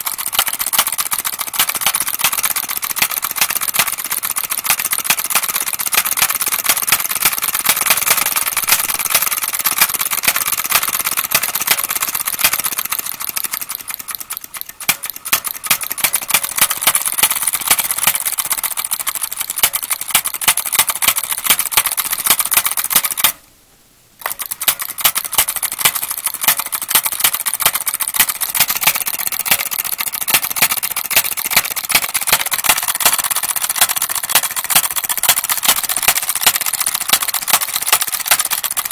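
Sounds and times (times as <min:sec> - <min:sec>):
light mechanical clatter: 0:00.0 - 0:23.4, 0:24.2 - 0:38.9.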